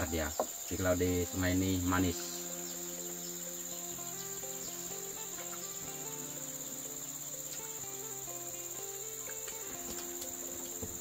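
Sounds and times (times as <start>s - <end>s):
insects chirring: 0.0s - 11.0s
quiet melody of low notes: 0.0s - 11.0s.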